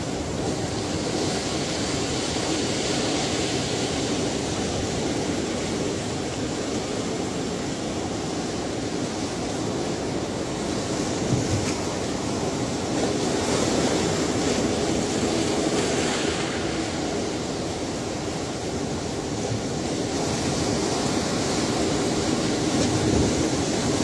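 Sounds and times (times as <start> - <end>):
ocean waves washing: 0.0 - 24.0.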